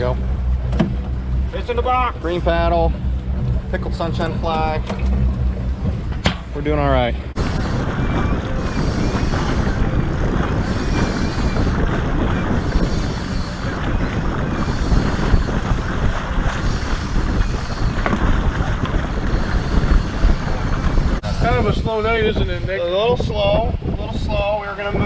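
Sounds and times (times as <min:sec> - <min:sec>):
boat engine rumble: 0:00.0 - 0:25.0
wind buffeting microphone: 0:00.0 - 0:25.0.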